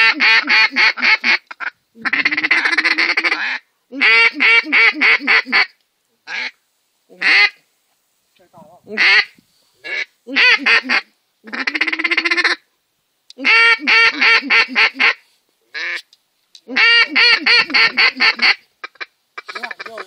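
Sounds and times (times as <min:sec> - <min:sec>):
duck call quacking: 0:00.0 - 0:05.7, 0:06.3 - 0:06.6, 0:07.2 - 0:07.6, 0:09.0 - 0:12.6, 0:13.4 - 0:16.1, 0:16.7 - 0:20.0.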